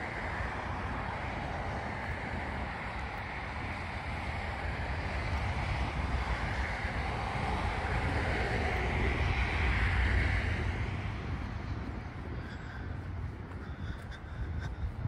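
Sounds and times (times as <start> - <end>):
car passing on road: 0.0 - 13.6
wind rumbling on microphone: 0.0 - 15.0.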